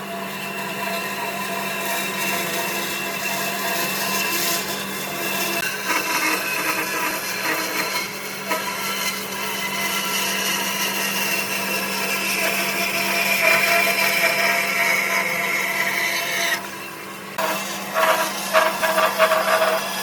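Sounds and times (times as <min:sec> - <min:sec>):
electric power tool whining: 0:03.8 - 0:20.0.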